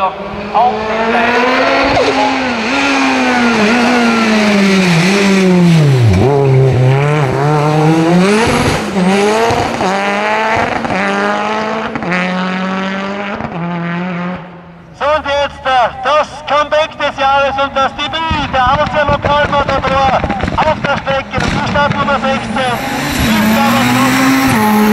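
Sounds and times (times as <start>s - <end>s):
race car engine at high revs: 0.0s - 14.7s, 18.4s - 24.9s.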